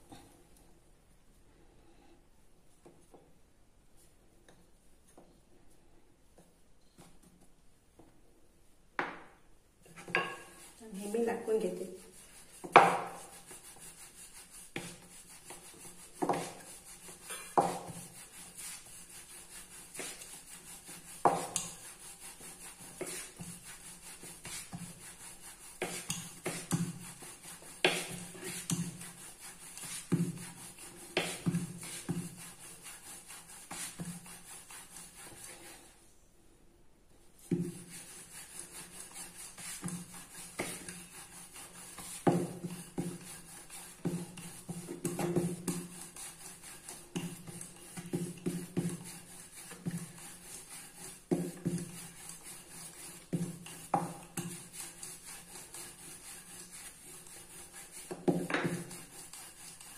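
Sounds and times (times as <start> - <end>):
rolling pin rolling dough: 9.0 - 36.0, 37.4 - 59.9.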